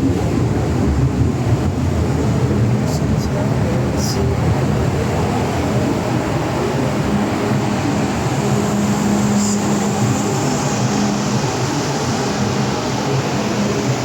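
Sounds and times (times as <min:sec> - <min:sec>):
train motor hum: 0:00.0 - 0:14.0.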